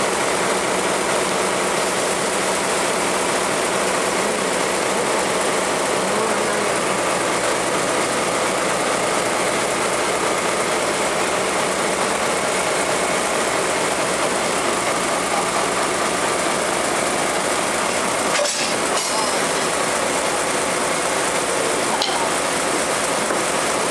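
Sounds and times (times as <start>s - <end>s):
diesel locomotive engine running: 0.0s - 23.9s.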